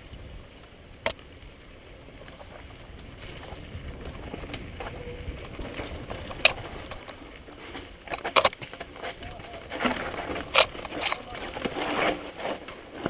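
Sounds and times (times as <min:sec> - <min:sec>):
bike rattling over rocks: 0:00.0 - 0:13.0
bike tyres rumbling on dirt: 0:00.0 - 0:13.0.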